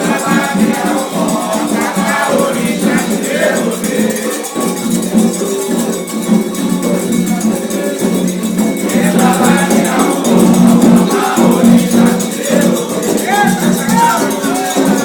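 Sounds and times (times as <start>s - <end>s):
voices singing: 0.0s - 15.0s.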